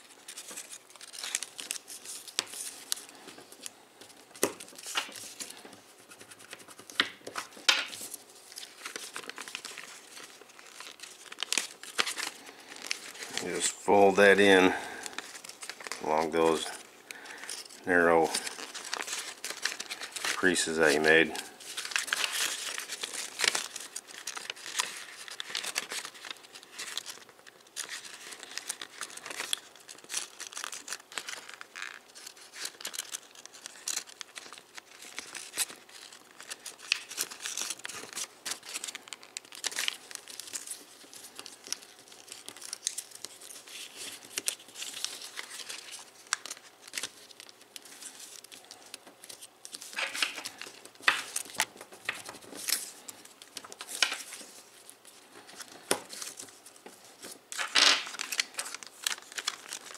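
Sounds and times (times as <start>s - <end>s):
paper crinkling and rustling: 0.0s - 59.9s.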